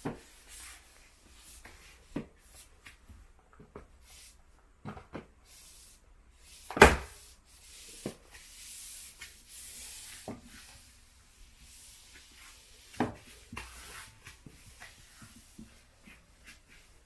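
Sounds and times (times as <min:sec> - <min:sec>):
floor mop swishing: 0:00.0 - 0:17.0.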